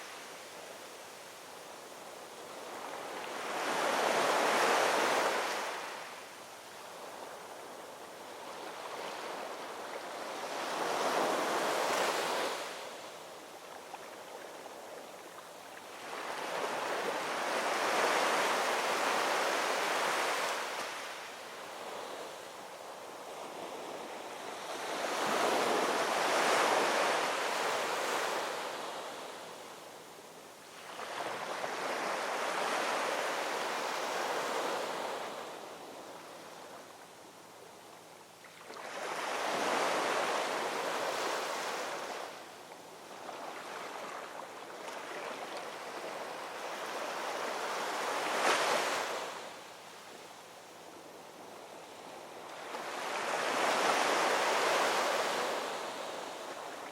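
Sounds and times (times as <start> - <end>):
ocean waves breaking on shore: 2.4 - 6.2, 6.8 - 29.9, 30.7 - 36.8, 38.5 - 50.2, 51.1 - 56.9.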